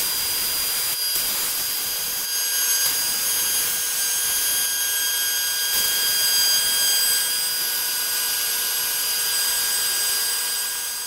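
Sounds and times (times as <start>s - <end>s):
hiss of cutting metal: 0.0s - 11.0s
router whining: 0.0s - 11.0s.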